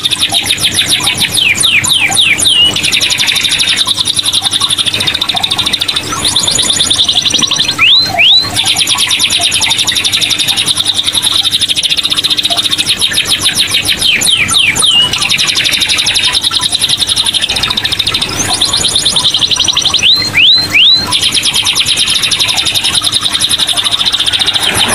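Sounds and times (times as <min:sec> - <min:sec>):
canary singing trills: 0:00.0 - 0:24.9.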